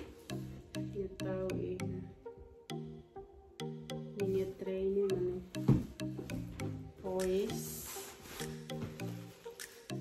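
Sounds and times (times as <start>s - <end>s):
melodic music over light beat: 0.0s - 10.0s.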